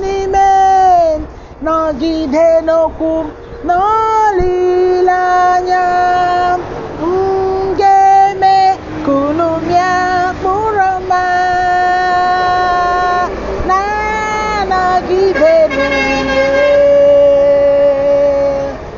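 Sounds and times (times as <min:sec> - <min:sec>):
woman singing unaccompanied: 0:00.0 - 0:18.9.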